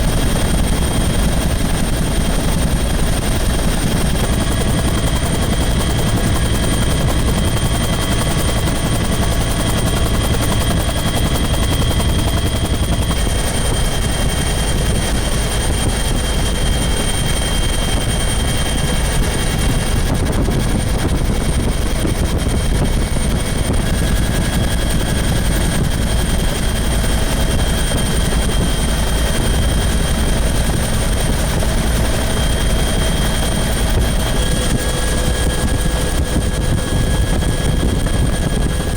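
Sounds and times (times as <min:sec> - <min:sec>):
helicopter in flight: 0:00.0 - 0:38.9.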